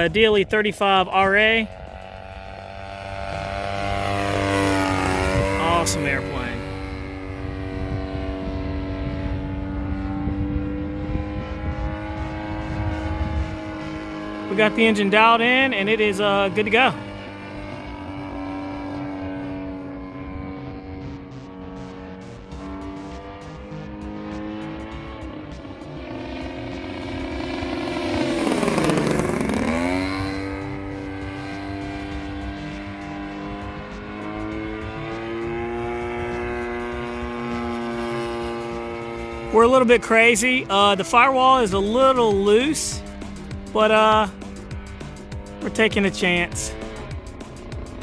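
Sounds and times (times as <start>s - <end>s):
low rumble: 0.0s - 48.0s
model airplane engine droning: 0.0s - 48.0s.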